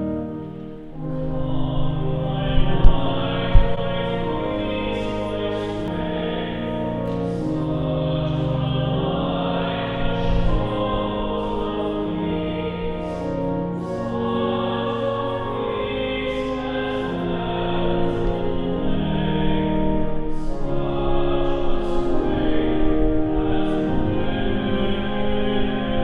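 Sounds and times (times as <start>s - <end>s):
choir singing a hymn: 0.0s - 26.0s
sustained accompaniment: 0.0s - 26.0s.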